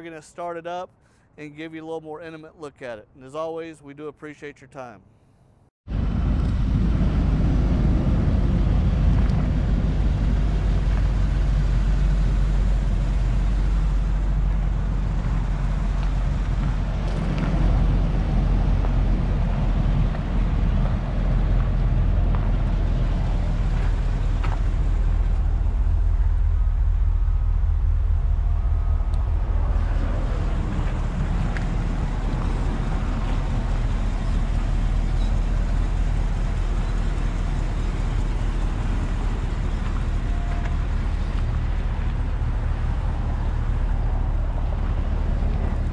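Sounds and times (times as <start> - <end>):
truck engine idling: 5.9 - 45.9.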